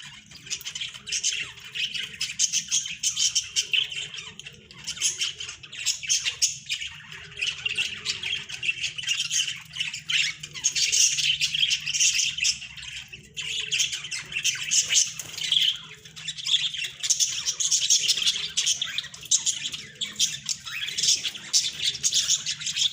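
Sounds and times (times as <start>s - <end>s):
budgerigars chattering and squawking: 0.0s - 22.9s.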